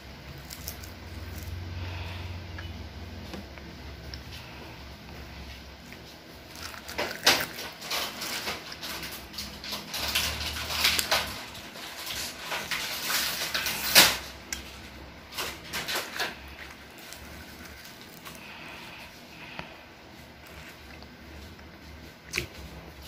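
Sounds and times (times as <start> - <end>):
child crunching seaweed sheets: 0.0 - 2.4, 4.0 - 23.0.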